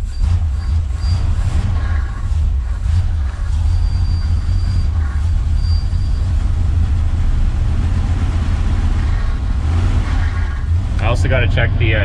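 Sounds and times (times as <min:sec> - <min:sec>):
car engine deep rumble: 0:00.0 - 0:12.0
faint high whine: 0:00.0 - 0:12.0.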